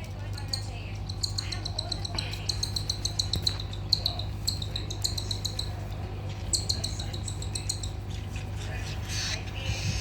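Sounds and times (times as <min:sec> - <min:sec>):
chicks begging chirps: 0:00.4 - 0:10.0.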